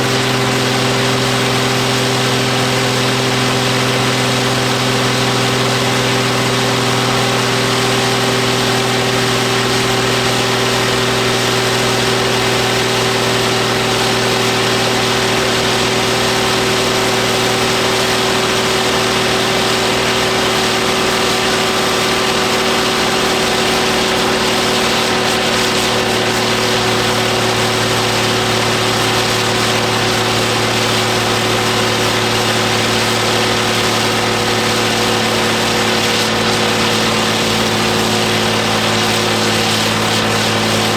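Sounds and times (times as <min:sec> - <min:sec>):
diesel tractor engine at high revs: 0:00.0 - 0:40.9.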